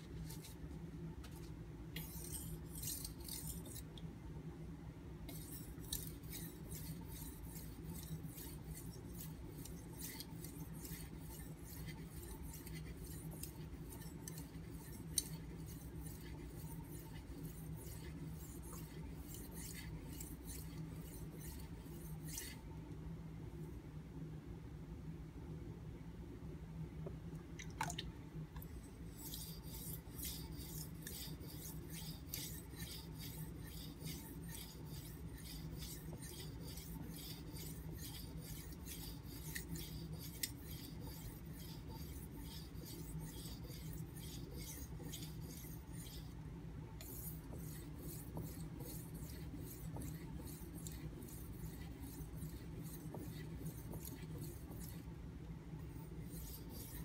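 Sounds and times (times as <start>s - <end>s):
knife scraping on whetstone: 0.2s - 0.6s, 2.0s - 3.9s, 5.3s - 22.6s, 28.6s - 46.4s, 47.0s - 55.1s, 55.8s - 57.0s.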